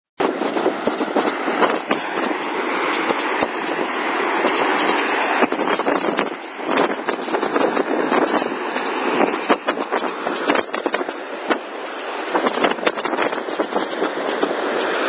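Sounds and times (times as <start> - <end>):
waterfall rushing: 0.2 - 15.0.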